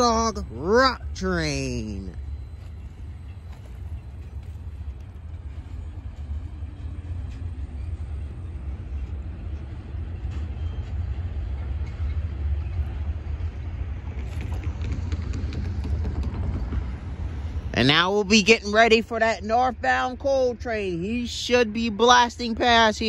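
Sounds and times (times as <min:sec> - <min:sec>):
freight cars rumbling on rails: 0:00.0 - 0:23.0.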